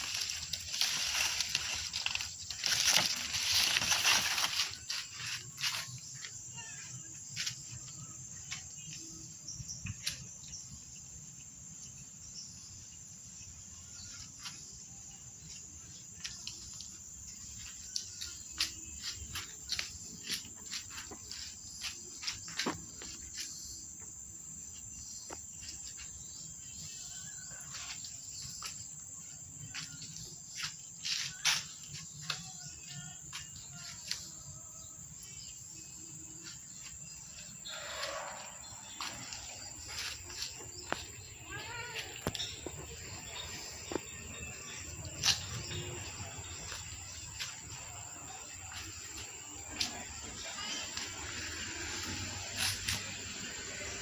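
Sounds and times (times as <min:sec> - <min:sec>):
crickets droning: 0:00.0 - 0:54.0.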